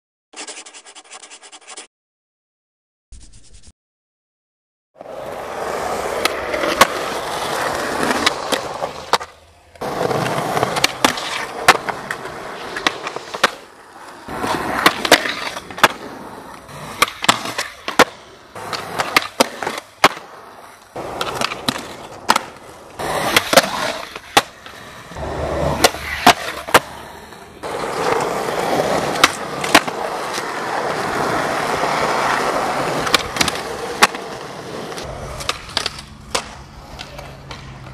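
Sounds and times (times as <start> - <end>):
skateboard clacks: 5.0 - 37.9
skateboard wheels rolling on concrete: 5.0 - 37.9.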